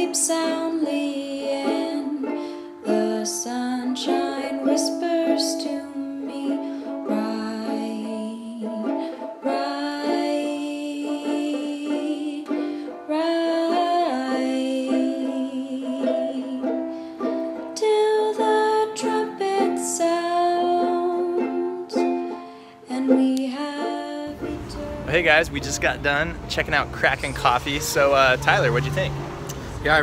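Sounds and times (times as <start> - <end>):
song with plucked strings: 0.0 - 30.0.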